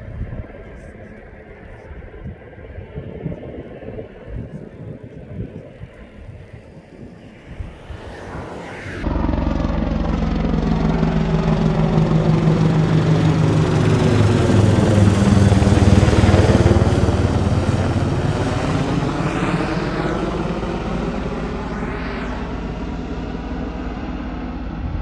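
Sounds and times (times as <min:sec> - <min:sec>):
helicopter rotor beat: 0:00.0 - 0:25.0.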